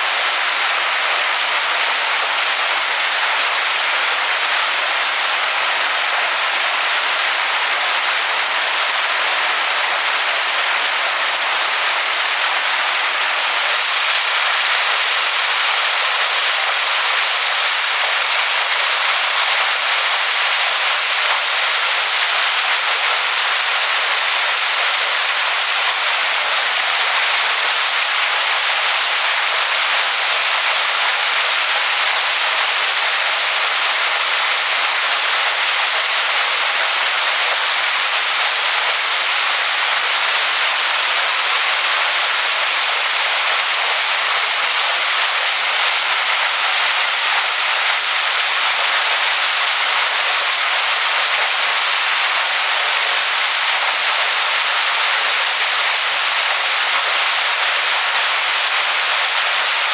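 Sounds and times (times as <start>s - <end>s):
waterfall splashing onto rocks: 0.0s - 59.9s.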